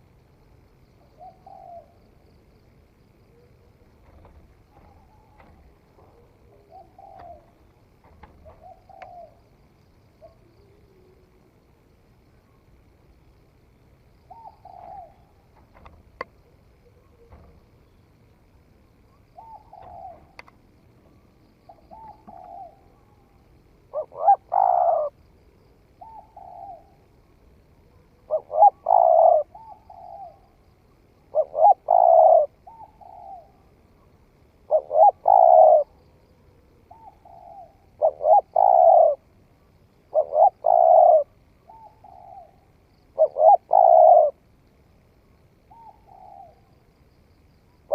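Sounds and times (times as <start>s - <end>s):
dove cooing: 1.0s - 2.4s, 3.1s - 11.7s, 14.2s - 18.0s, 19.1s - 25.2s, 25.8s - 39.4s, 40.0s - 44.4s, 45.7s - 46.8s.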